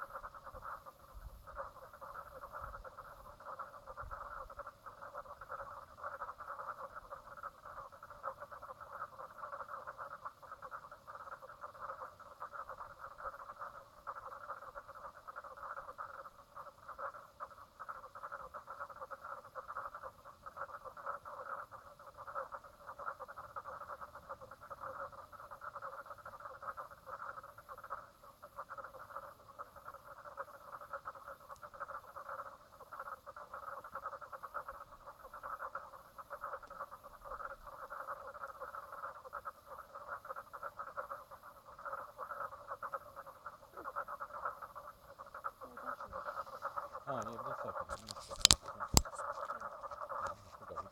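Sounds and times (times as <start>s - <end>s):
chorus of frogs calling: 0.0s - 50.9s.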